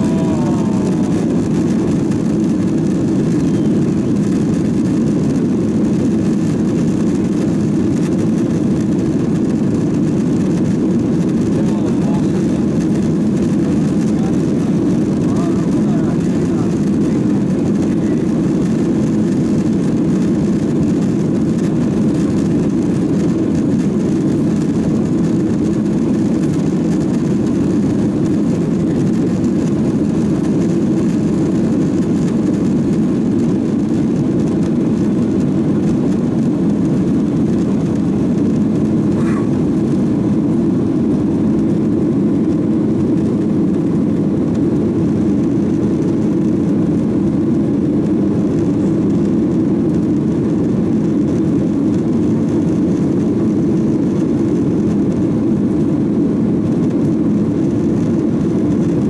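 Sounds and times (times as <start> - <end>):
jet engines at takeoff thrust: 0.0 - 59.0.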